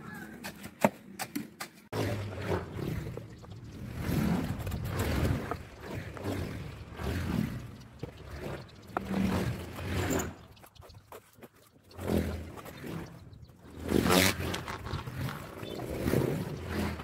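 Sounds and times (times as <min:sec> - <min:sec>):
wind buffeting microphone: 0:02.0 - 0:11.2, 0:11.9 - 0:17.0.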